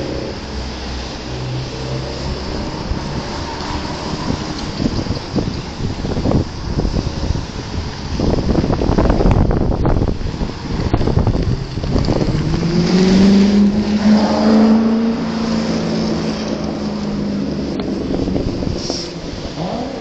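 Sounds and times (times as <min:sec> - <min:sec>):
car engine pulling away: 0:00.0 - 0:20.0
cars passing: 0:00.0 - 0:20.0
wind buffeting microphone: 0:00.0 - 0:20.0.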